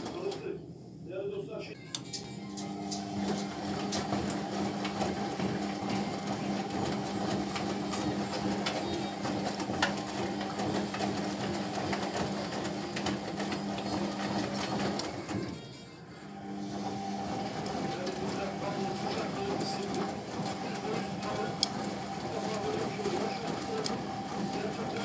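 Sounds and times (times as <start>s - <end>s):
washing machine motor hum: 0.0s - 25.0s
water and laundry sloshing: 3.2s - 15.4s, 16.6s - 25.0s.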